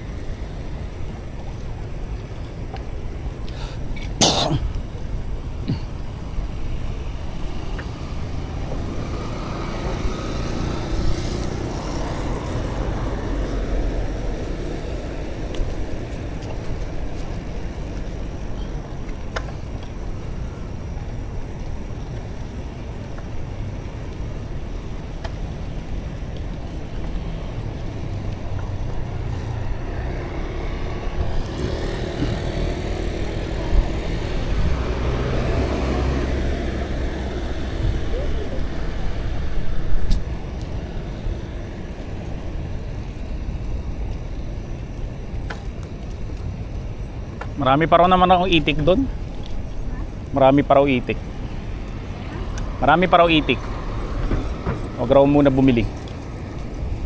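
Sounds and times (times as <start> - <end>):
traffic rumble: 0.0 - 57.0
vehicle passing: 5.7 - 57.0.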